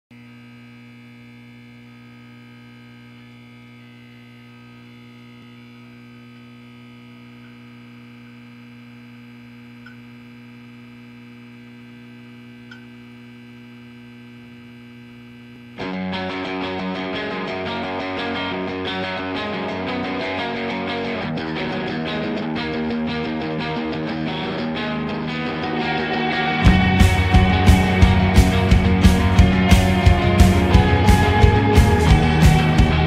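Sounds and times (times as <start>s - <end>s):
electrical hum: 0.2s - 33.0s.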